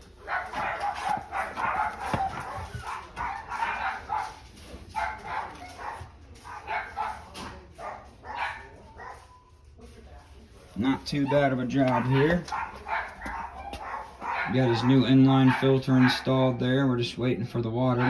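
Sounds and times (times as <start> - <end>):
dog barking and whining: 0.2 - 9.3, 10.8 - 16.4.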